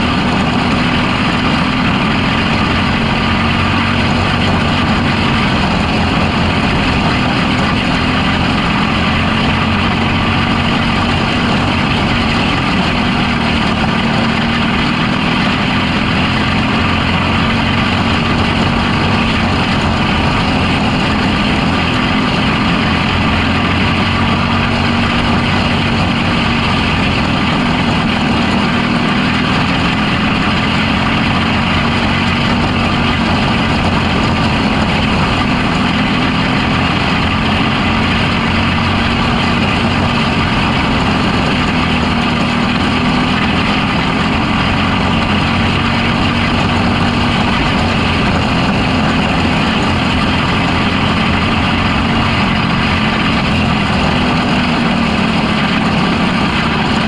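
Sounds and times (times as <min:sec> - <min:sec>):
racing engine running hard: 0:00.0 - 0:57.0.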